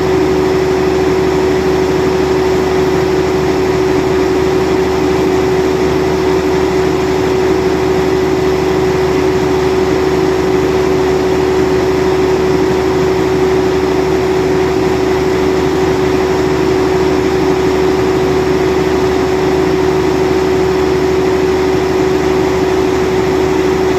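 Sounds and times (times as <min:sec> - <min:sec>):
generator engine droning: 0:00.0 - 0:23.9.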